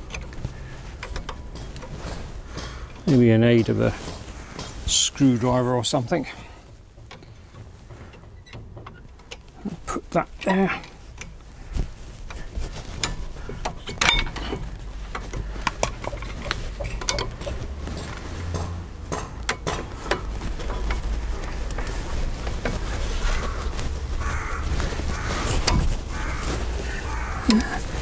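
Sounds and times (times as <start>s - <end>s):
metal clicks and scrapes: 0.0s - 28.0s.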